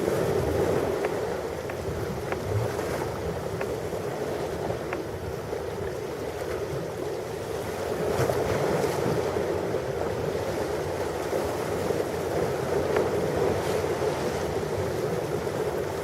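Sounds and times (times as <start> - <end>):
ocean surf waves: 0.0 - 16.0.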